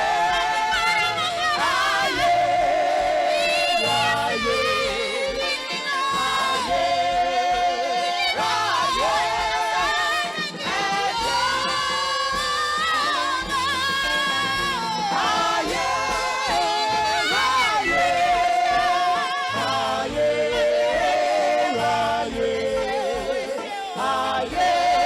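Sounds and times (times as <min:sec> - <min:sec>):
gospel singing with vibrato: 0:00.0 - 0:25.0
steady bass accompaniment: 0:00.0 - 0:25.0.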